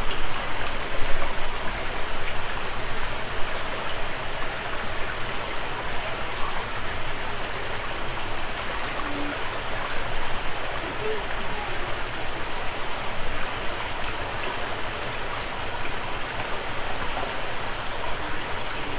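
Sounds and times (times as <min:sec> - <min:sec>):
creek water running over rocks: 0:00.0 - 0:18.9.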